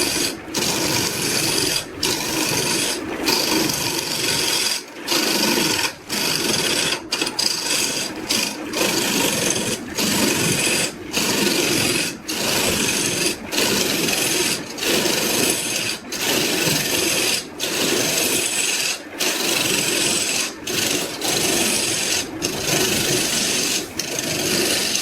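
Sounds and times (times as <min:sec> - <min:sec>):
wood rasping scrape: 0:00.0 - 0:25.0.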